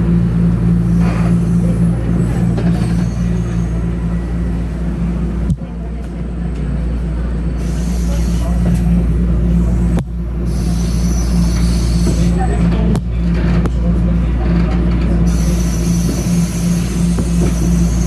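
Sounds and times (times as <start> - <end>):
subway car rumble: 0.0 - 18.0.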